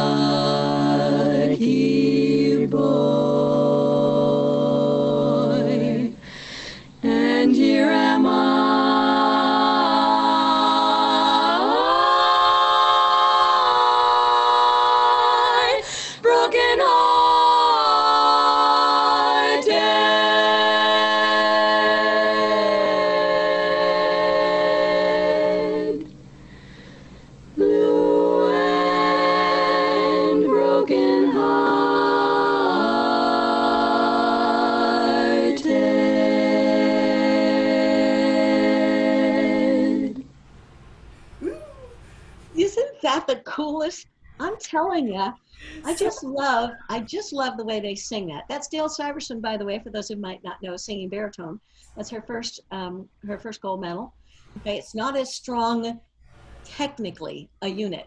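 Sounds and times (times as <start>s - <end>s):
women singing a cappella harmony: 0.0s - 40.4s, 44.5s - 55.9s.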